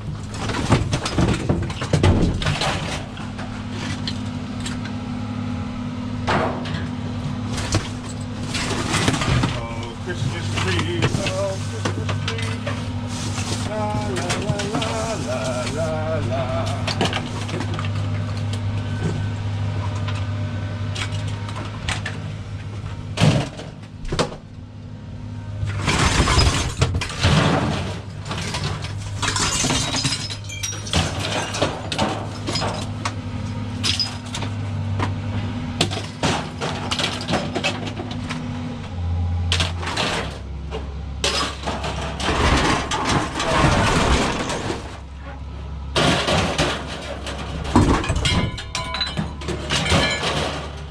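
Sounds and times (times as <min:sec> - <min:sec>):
scrap metal clanking and crashing: 0:00.0 - 0:05.0, 0:06.2 - 0:20.2, 0:20.8 - 0:24.5, 0:25.6 - 0:50.9.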